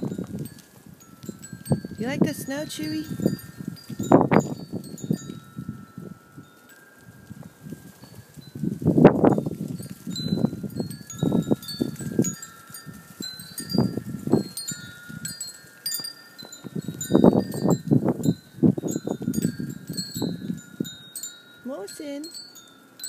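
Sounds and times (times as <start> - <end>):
puppy rustling in snow: 0.0 - 20.8
wind chimes ringing: 0.0 - 23.0.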